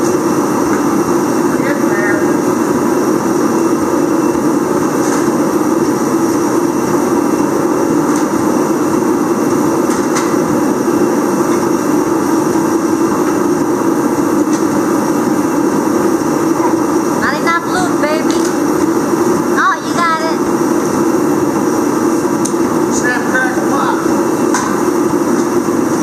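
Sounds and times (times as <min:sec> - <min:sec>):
heater running loudly: 0:00.0 - 0:26.0.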